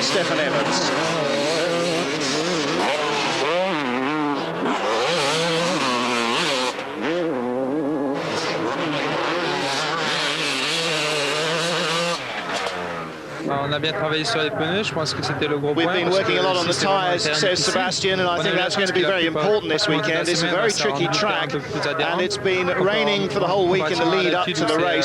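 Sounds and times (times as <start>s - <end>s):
motocross bikes revving: 0.0s - 25.0s.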